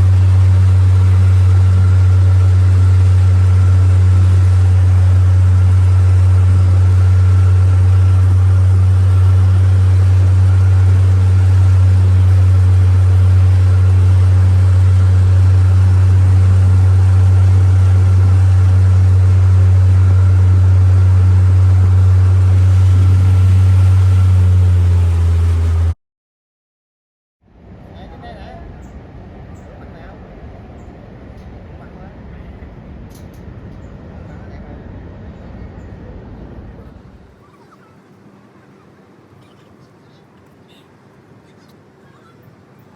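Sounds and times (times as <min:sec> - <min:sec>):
engine running steadily: 0:00.0 - 0:26.0, 0:27.5 - 0:42.9.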